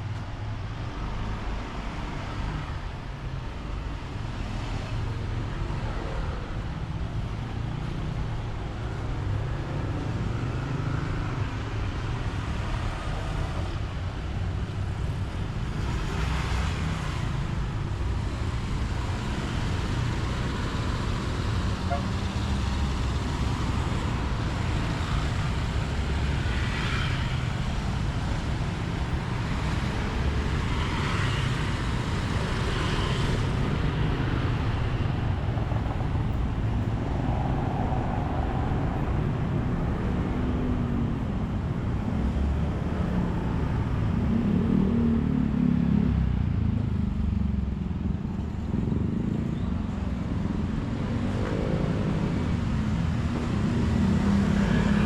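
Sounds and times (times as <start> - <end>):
rumble of passing traffic: 0.0 - 55.0.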